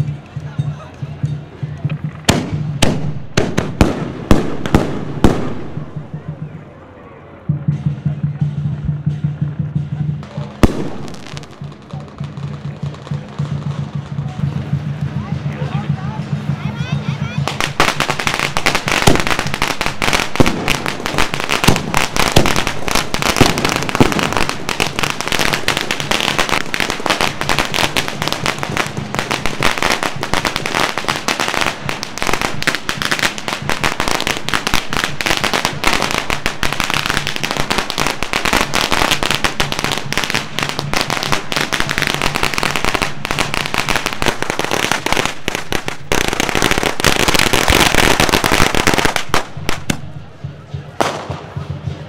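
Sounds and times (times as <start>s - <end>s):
firecrackers crackling and banging: 0.0s - 52.0s.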